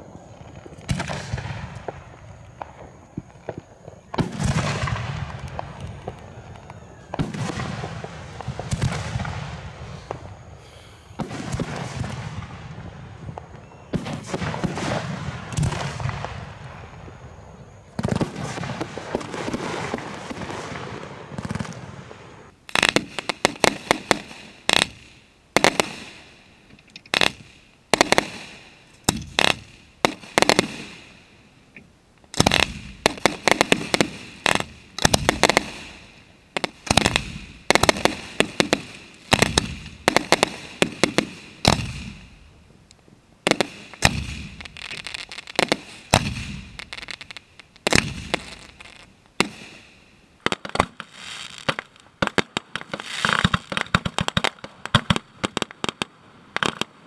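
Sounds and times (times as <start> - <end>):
fireworks bangs with echoes: 0.0 - 10.3, 11.2 - 16.9, 18.0 - 26.3, 27.2 - 31.2, 32.4 - 42.5, 43.4 - 56.9.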